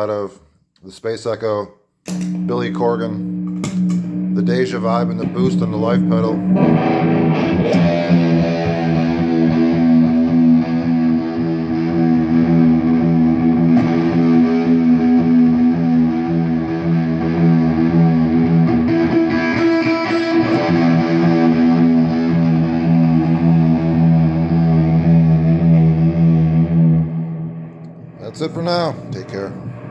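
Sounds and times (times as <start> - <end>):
distorted electric guitar chords: 2.1 - 29.9.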